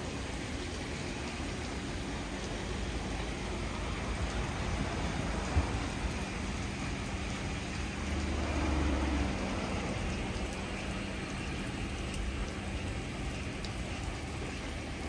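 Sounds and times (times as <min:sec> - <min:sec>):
water jets hissing on car: 0:00.0 - 0:15.0.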